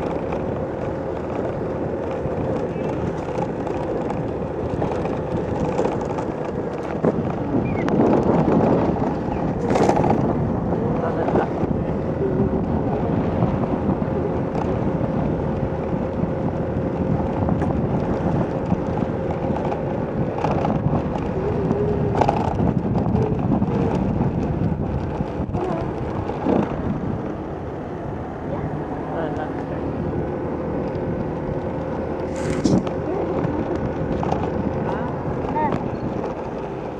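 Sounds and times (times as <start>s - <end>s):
engine hum: 0.0s - 36.9s
vehicle road noise: 0.0s - 36.9s
wind over microphone: 0.0s - 36.9s.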